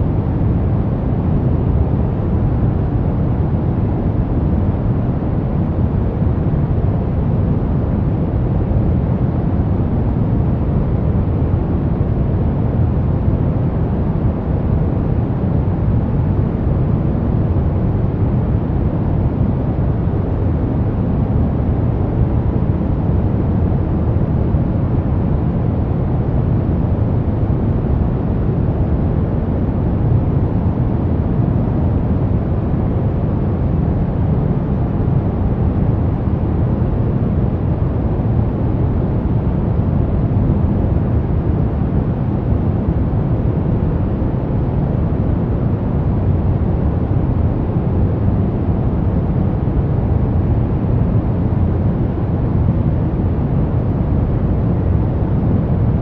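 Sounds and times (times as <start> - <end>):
brown noise rumbling hiss: 0.0 - 56.0.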